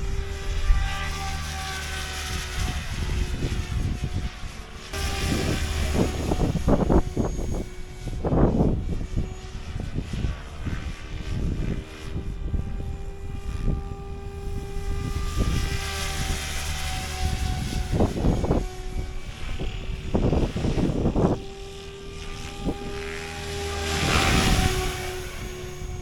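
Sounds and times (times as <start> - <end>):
rc helicopter motor whine: 0.0 - 26.0
wind buffeting microphone: 0.0 - 26.0.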